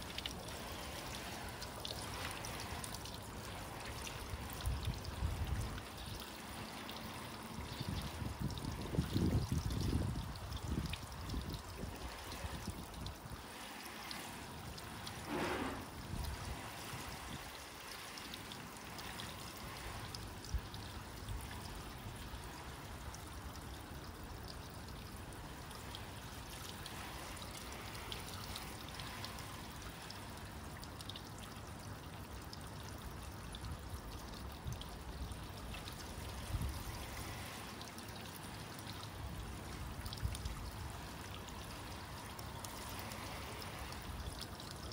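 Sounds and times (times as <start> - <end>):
hose water spraying and splashing: 0.0 - 44.9.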